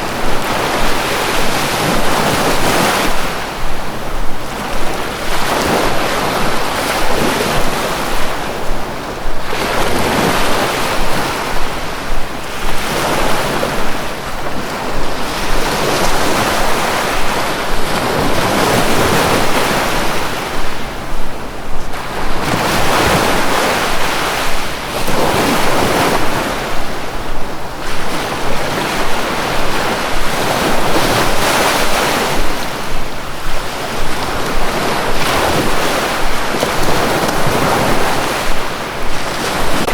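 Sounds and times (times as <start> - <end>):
sea waves surf rushing: 0.0 - 39.9.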